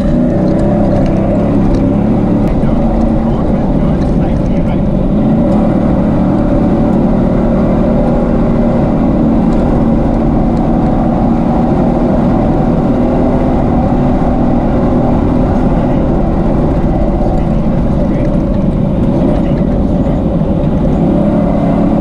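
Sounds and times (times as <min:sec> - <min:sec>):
truck engine running hard: 0:00.0 - 0:22.0
tyre and road rumble: 0:00.0 - 0:22.0.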